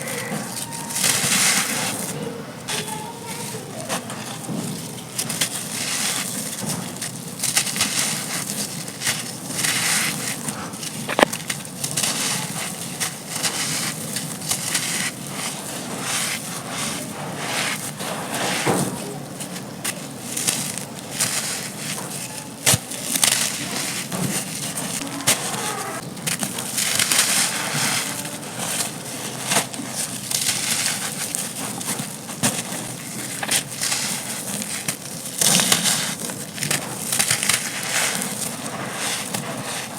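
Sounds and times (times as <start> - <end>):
sand-cement chunks crumbling: 2.8 - 39.9.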